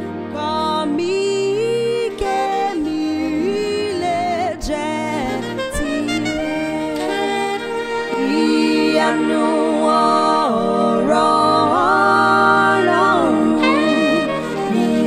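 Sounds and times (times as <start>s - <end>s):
soprano saxophone: 0.0s - 15.0s
woman singing a hymn: 0.0s - 15.0s.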